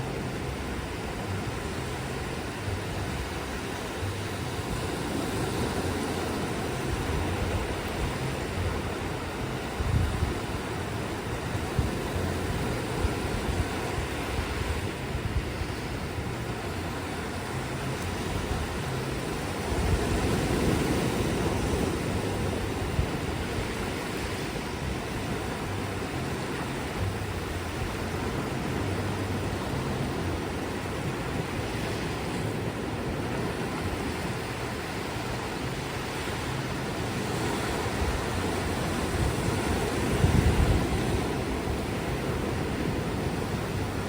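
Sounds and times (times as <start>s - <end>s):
ocean surf washing onto beach: 0.0s - 44.0s
wind on microphone: 0.0s - 44.0s.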